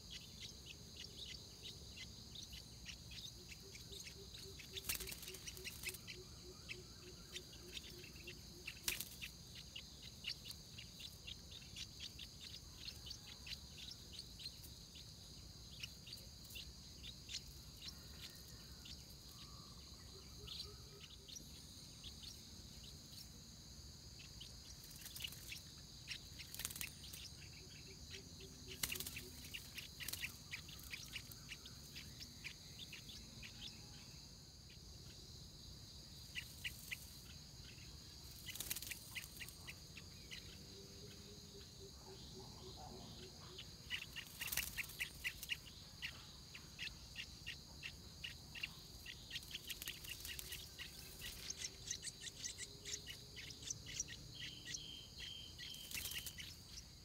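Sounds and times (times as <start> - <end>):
bird chicks chirping: 0.0 - 57.0
insects droning: 0.0 - 57.0.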